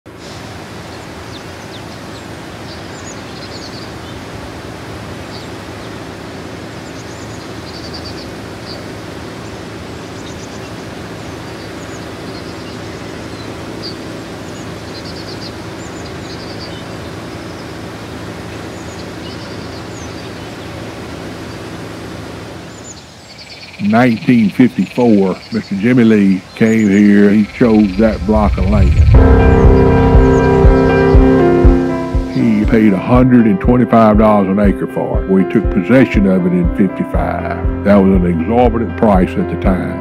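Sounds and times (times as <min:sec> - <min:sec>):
steady hiss: 0:00.1 - 0:33.2
low engine drone: 0:00.1 - 0:40.0
small birds chirping: 0:00.8 - 0:32.9.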